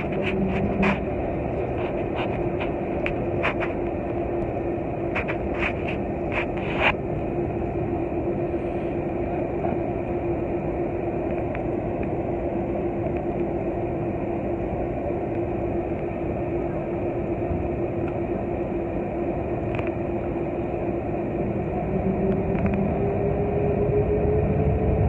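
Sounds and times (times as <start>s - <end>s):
airplane engines humming: 0.0s - 25.0s.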